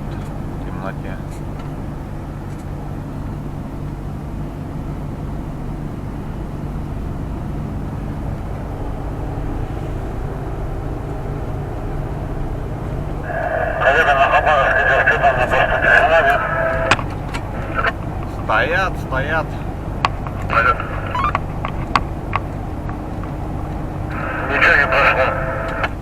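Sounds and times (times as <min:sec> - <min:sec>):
road noise: 0:00.0 - 0:26.0
truck diesel engine droning: 0:00.0 - 0:26.0.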